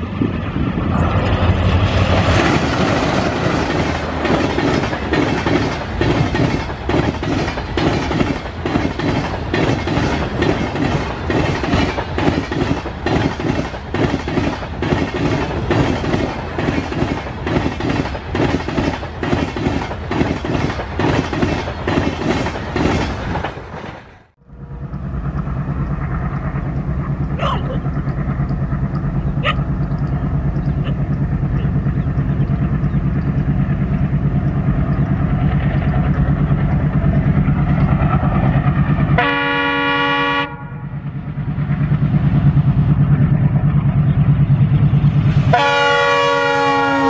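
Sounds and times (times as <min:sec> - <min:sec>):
diesel locomotive engine rumble: 0:00.0 - 0:47.0
train wheels clacking over rail joints: 0:01.0 - 0:24.1, 0:24.8 - 0:39.4.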